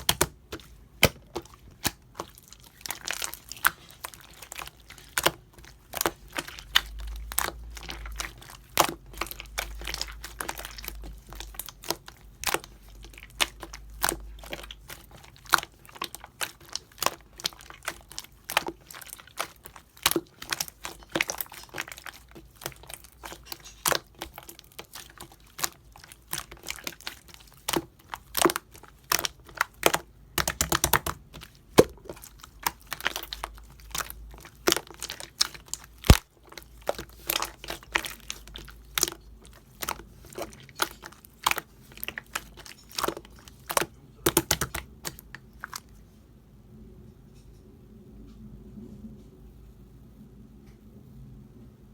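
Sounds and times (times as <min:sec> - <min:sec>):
hands squishing slime: 0:00.0 - 0:46.0.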